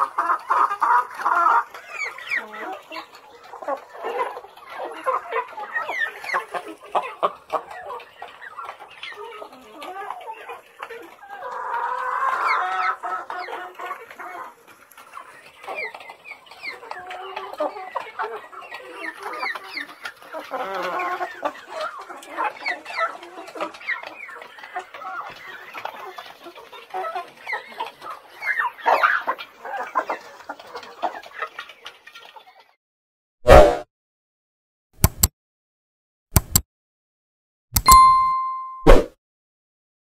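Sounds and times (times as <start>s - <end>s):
chickens clucking: 0.0s - 32.8s.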